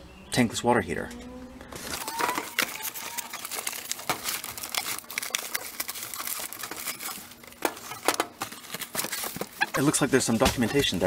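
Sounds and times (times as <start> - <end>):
plastic packaging crinkling: 1.7 - 11.0.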